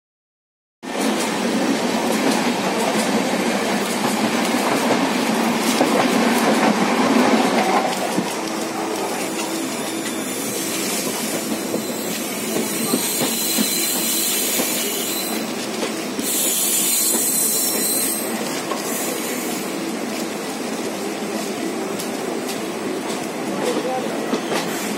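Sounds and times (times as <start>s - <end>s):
train rumbling along track: 0.8s - 24.9s.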